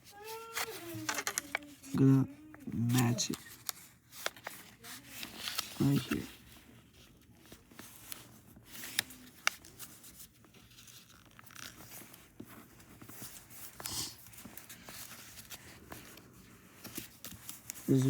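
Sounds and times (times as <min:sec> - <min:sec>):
paper rustling and creasing: 0:00.0 - 0:18.0.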